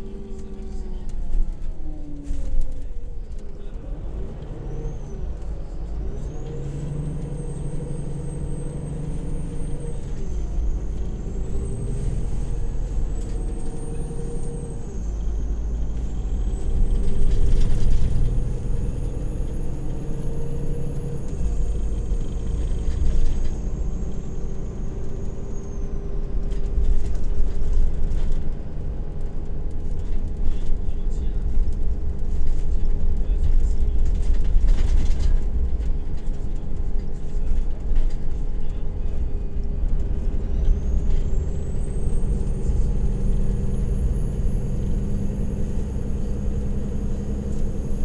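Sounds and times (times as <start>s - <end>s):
bus engine rumble: 0.0s - 48.0s.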